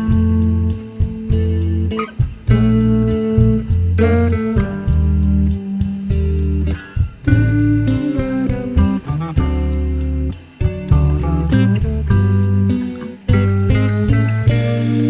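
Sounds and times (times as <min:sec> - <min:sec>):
guitar music over bass: 0:00.0 - 0:15.0.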